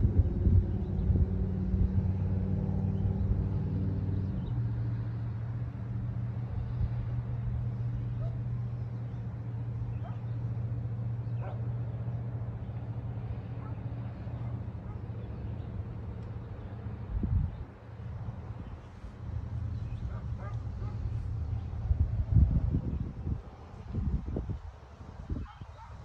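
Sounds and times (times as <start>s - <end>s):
engine humming: 0.0s - 24.8s.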